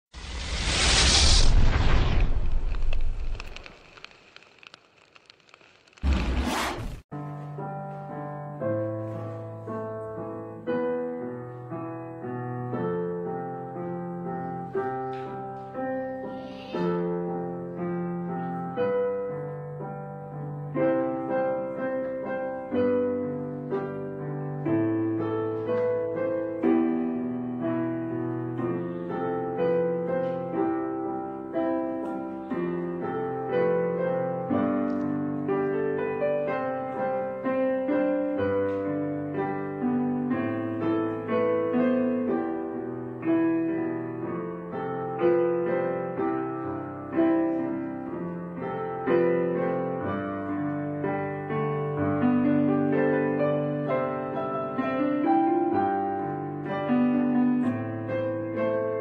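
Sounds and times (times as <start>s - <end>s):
piano music: 7.1s - 59.0s.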